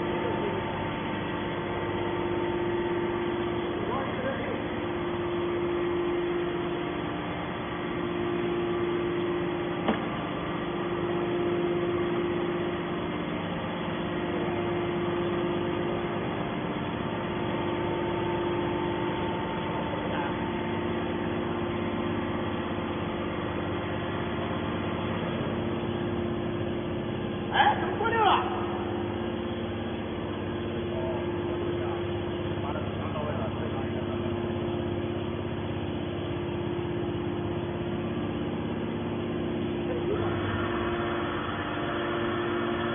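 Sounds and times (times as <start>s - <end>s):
baling machine humming: 0.0s - 42.9s.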